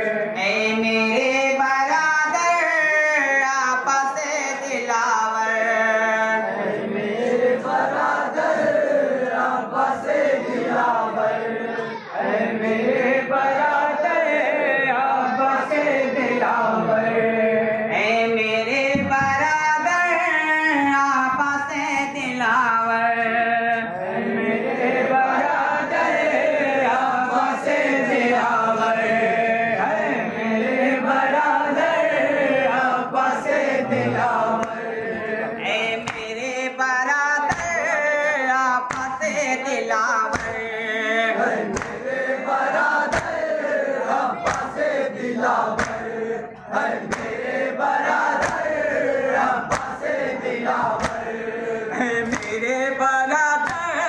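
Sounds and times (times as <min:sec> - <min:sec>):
men chanting in chorus: 0:00.0 - 0:54.0.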